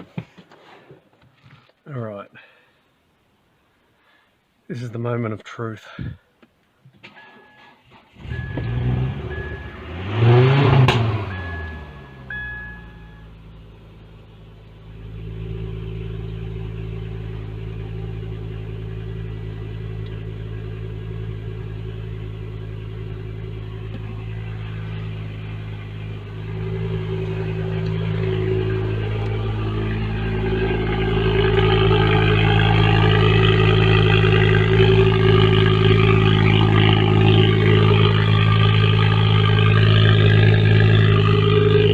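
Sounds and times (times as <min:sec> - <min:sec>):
car engine starting and idling: 0:06.9 - 0:41.9.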